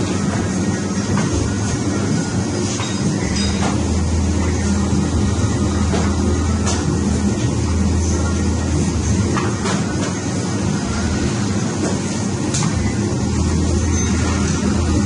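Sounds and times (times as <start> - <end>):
lamination machine motor hum: 0.0 - 15.0.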